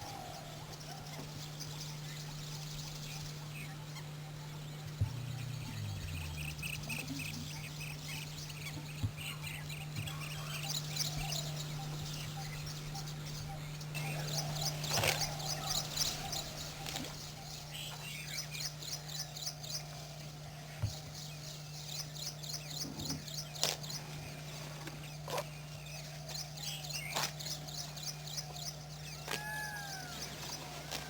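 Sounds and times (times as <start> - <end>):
birds calling high-pitched: 0.0 - 31.0
steady low hum: 0.0 - 31.0.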